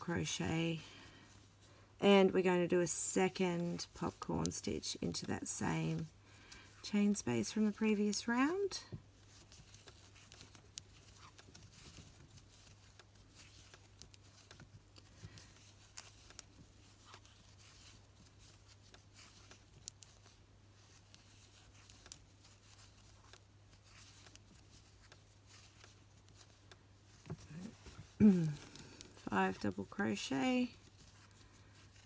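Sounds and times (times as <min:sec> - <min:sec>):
crochet hook ticks and yarn rustles: 0:02.1 - 0:32.0.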